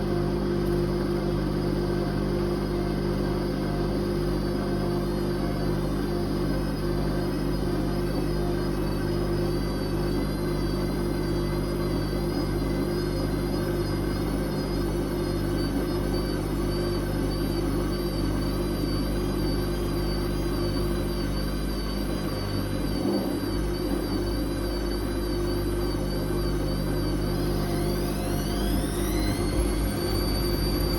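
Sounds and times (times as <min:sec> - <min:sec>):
washing machine spinning: 0:00.0 - 0:30.9.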